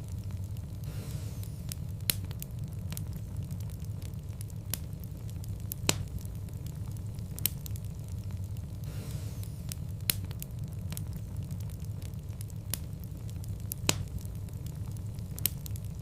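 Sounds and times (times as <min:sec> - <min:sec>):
fire popping: 0:00.0 - 0:16.0
steady low rumble: 0:00.0 - 0:16.0
wood fire crackling: 0:00.0 - 0:16.0.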